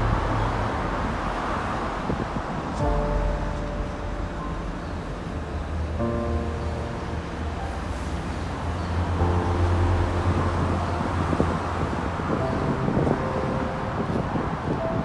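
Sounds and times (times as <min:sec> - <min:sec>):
low steady rumble: 0:00.0 - 0:14.4
background music: 0:00.0 - 0:15.0
wind on microphone: 0:00.0 - 0:15.0.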